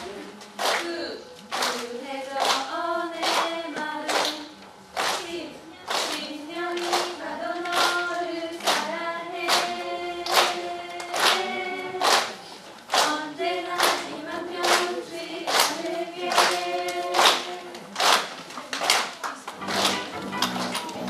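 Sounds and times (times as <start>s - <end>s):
group singing: 0.0s - 18.3s
hand claps: 0.6s - 0.9s, 1.5s - 14.9s, 15.5s - 21.0s.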